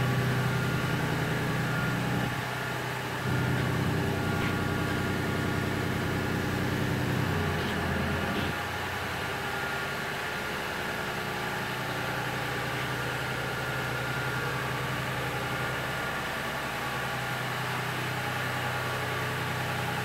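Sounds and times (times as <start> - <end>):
high machine whine: 0.0 - 20.0
industrial machinery humming: 0.0 - 20.0.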